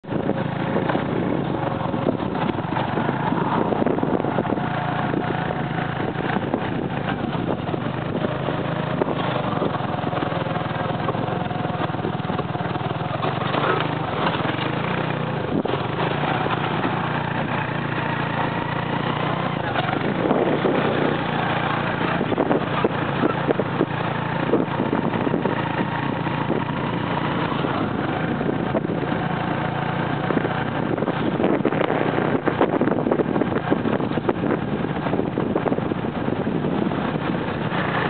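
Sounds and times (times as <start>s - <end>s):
motorcycle engine driving: 0.0s - 38.0s
road and wind noise: 0.0s - 38.0s.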